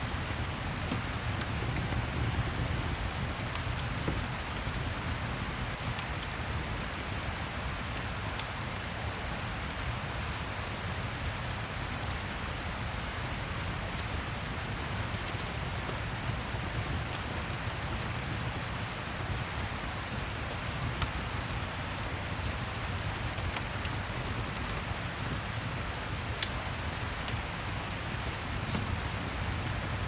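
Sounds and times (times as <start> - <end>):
faint wood fire crackles: 0.0 - 30.0
steady rain falling: 0.0 - 30.0.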